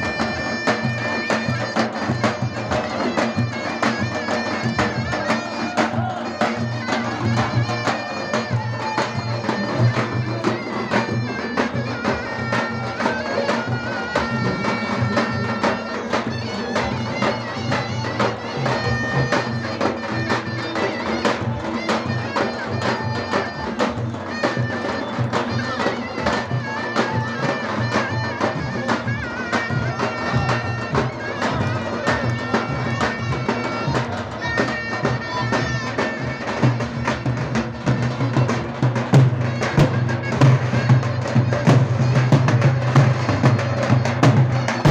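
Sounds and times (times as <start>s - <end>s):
double-headed drum beat: 0.0s - 44.9s
shrill reed pipe melody: 0.0s - 44.9s.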